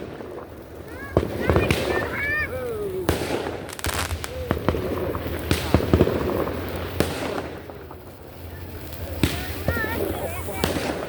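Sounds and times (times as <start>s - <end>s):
firecrackers cracking: 0.0s - 11.0s.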